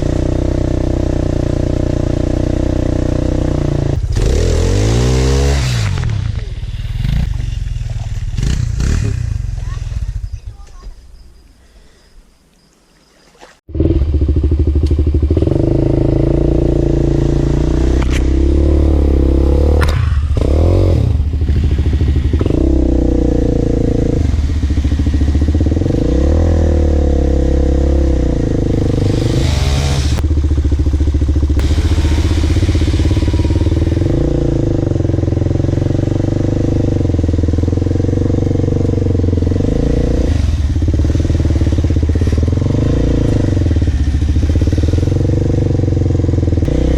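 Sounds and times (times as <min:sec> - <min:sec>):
off-road bike engine revving: 0:00.0 - 0:10.7, 0:13.7 - 0:46.9.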